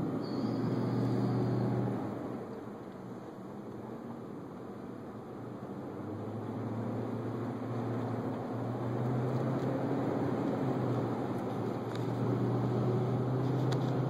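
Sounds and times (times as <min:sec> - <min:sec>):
car engine hum: 0:00.0 - 0:14.0
tyre road noise: 0:00.0 - 0:14.0.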